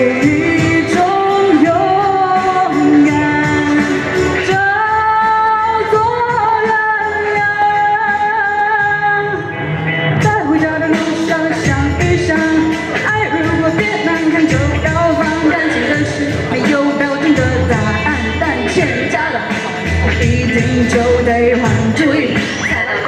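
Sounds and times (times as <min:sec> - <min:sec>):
pop backing track with drums: 0:00.0 - 0:23.0.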